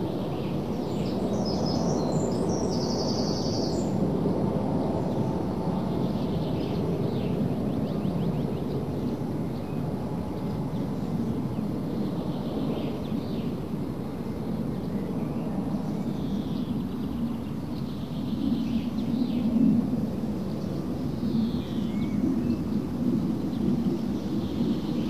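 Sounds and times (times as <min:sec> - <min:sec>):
low rumbling background noise: 0:00.0 - 0:25.0.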